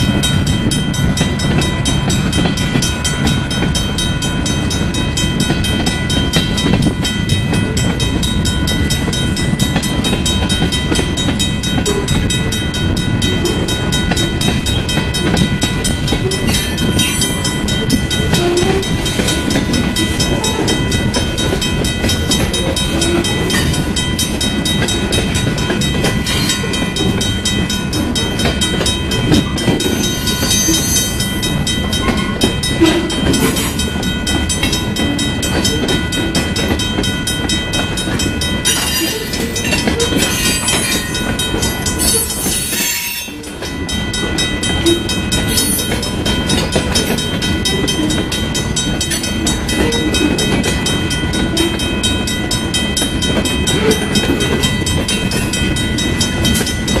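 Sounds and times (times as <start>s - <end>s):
train wheels clacking over rail joints: 0.0s - 57.0s.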